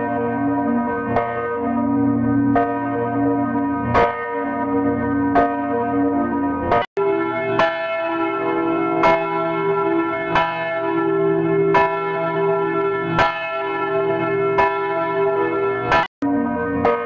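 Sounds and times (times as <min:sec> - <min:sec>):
church bell ringing: 0:00.0 - 0:17.0.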